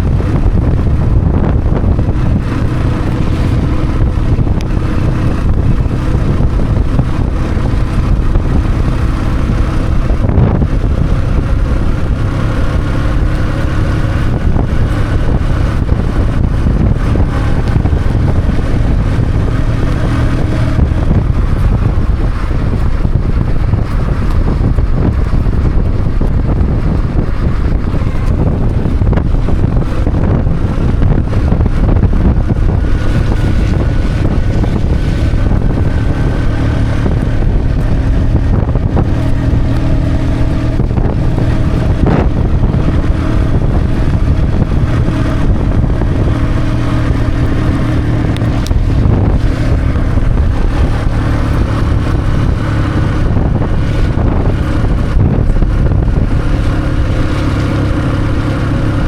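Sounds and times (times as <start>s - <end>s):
vehicle engine humming: 0.0s - 59.0s
wind buffeting microphone: 0.0s - 59.0s.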